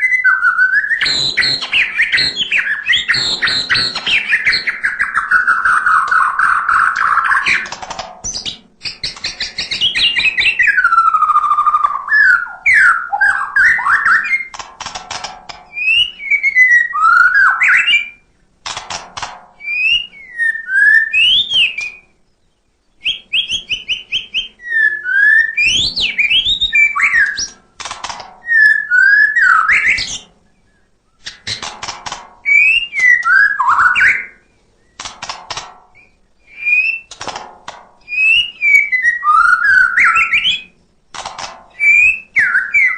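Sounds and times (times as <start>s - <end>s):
bird singing whistles and trills: 0.0s - 14.6s, 15.7s - 18.3s, 19.6s - 27.6s, 28.4s - 31.6s, 32.4s - 35.0s, 36.0s - 37.2s, 38.1s - 40.8s, 41.7s - 42.9s.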